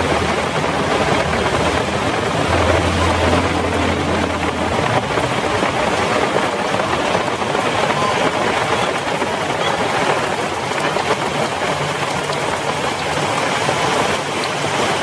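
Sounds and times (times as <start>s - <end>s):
heavy rain on road: 0.0s - 15.0s
low engine hum: 0.0s - 15.0s.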